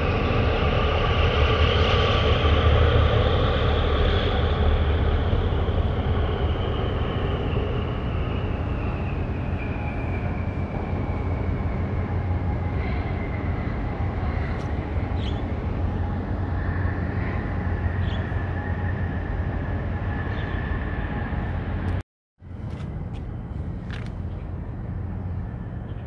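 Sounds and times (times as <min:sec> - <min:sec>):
ship rumble: 0:00.0 - 0:25.9.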